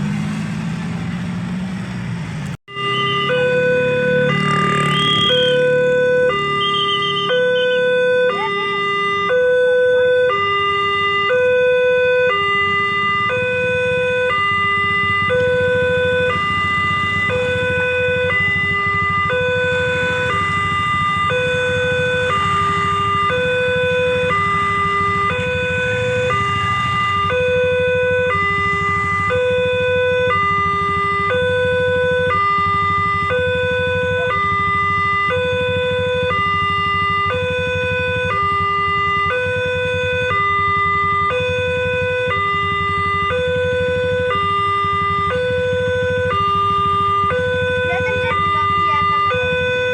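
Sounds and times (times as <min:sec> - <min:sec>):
level crossing two-tone alarm: 0:02.7 - 0:49.9.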